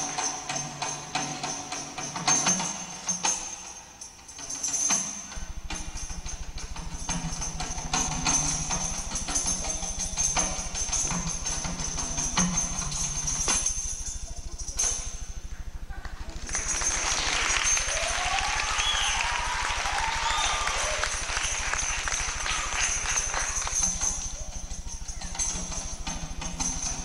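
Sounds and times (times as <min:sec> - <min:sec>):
sharp percussion strikes: 0:00.0 - 0:27.0
stage music with jingling percussion: 0:00.0 - 0:27.0
low buzz: 0:05.4 - 0:27.0.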